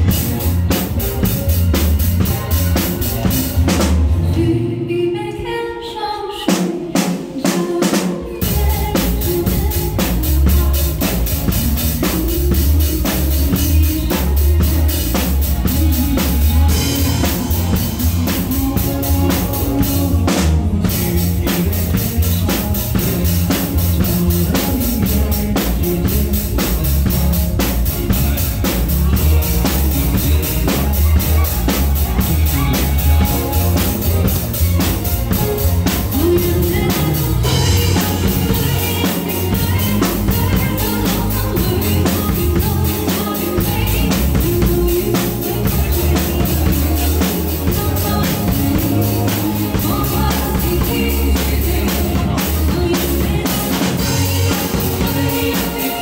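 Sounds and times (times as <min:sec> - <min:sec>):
drum kit playing: 0:00.0 - 0:04.9, 0:06.4 - 0:56.0
backing track with bass and melody: 0:00.0 - 0:56.0.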